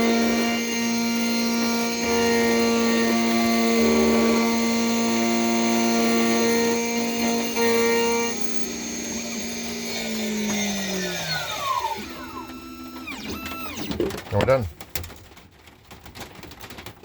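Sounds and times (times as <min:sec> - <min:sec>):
key-cutting machine motor whine: 0:00.0 - 0:14.0.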